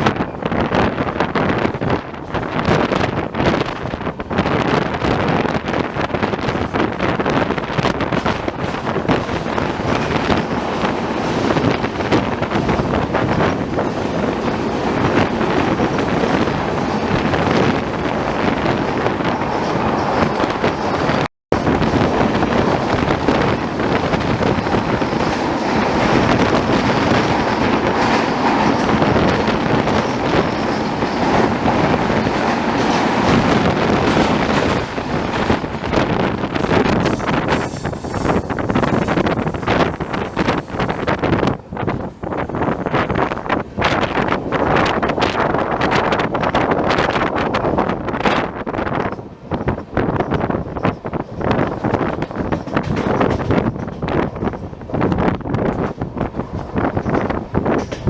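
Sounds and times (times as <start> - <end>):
rushing air: 0.0 - 58.0
train wheels rumbling on rails: 0.0 - 58.0.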